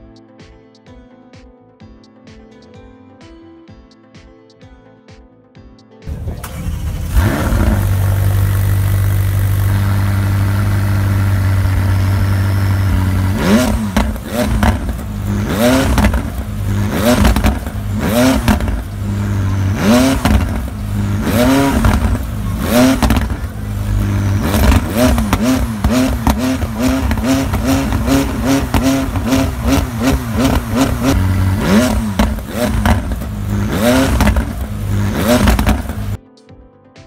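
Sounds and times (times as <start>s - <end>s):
car engine revving: 6.1s - 36.2s.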